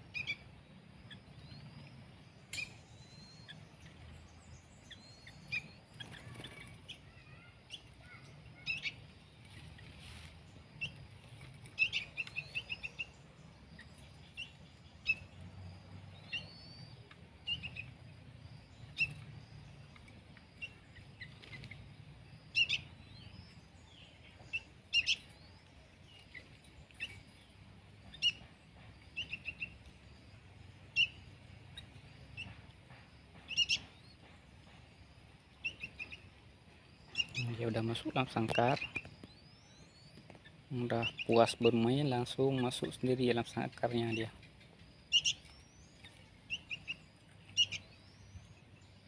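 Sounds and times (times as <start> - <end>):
young birds chirping: 0.0 - 49.0.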